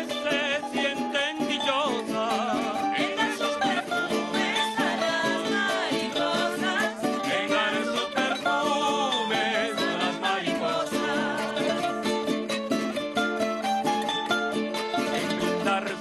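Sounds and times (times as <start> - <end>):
group singing a folk song: 0.0 - 16.0
plucked strings: 0.0 - 16.0.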